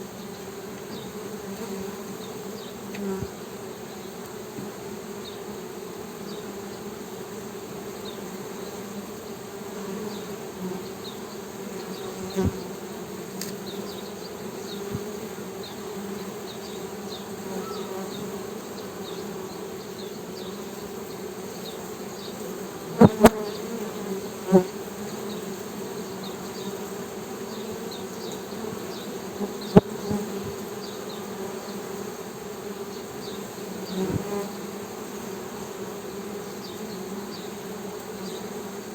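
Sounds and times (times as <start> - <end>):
honey bees humming: 0.0 - 38.9.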